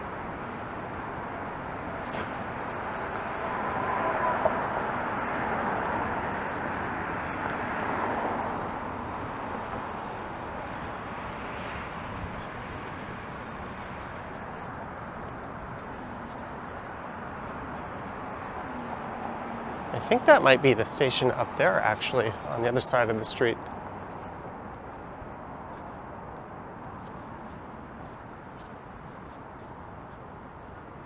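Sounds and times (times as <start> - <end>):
road traffic: 0.0 - 31.0.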